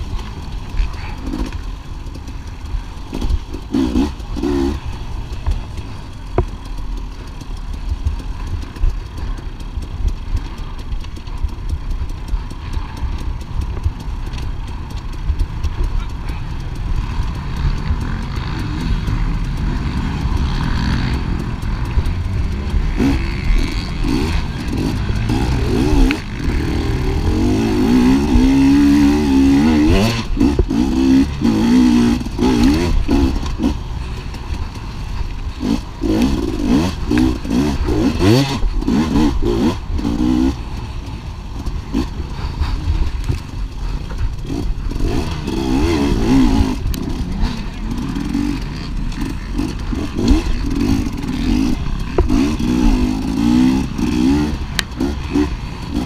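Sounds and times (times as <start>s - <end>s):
bike knocks and rattles: 0.0s - 56.0s
dirt bike engine revving: 0.0s - 56.0s.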